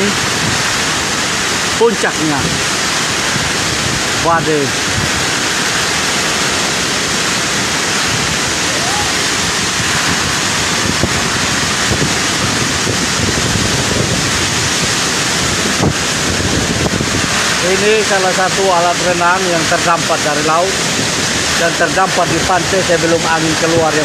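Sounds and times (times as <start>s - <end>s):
storm wind blowing hard: 0.0s - 24.0s.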